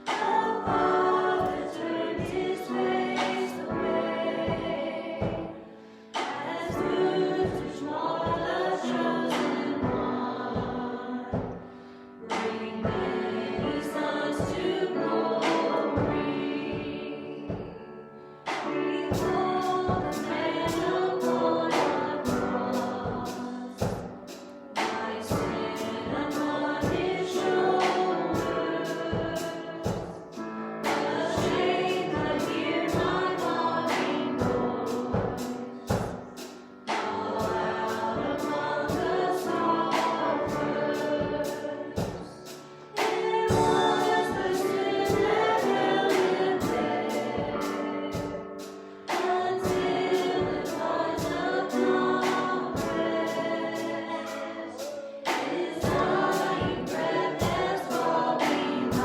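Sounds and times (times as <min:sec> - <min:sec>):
instrumental accompaniment with beat: 0:00.0 - 0:59.0
voices singing together: 0:00.0 - 0:59.0.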